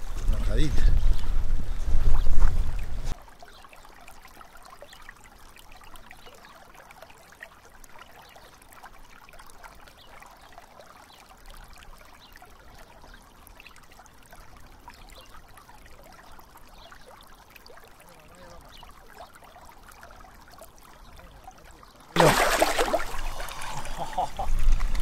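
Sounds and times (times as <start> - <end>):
river water trickling: 0.0 - 25.0
small drips and ticks: 2.1 - 22.2.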